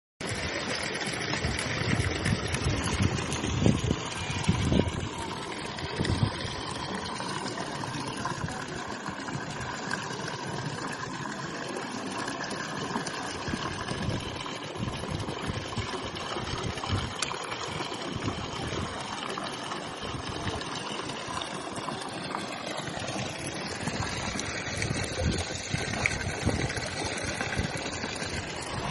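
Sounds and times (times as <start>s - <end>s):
water trickling and gurgling: 0.2s - 28.9s.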